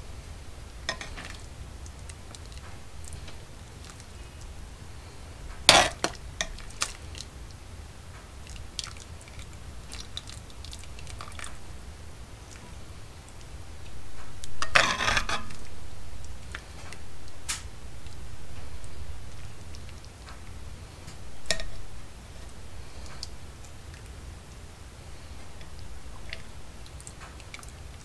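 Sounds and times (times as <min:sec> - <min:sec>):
wet food scooping: 0:00.8 - 0:24.2.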